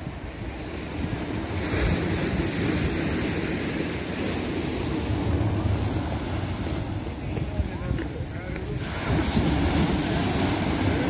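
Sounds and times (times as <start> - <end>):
wind gusting on microphone: 0.0 - 11.0
surf breaking on rocks: 1.4 - 11.0.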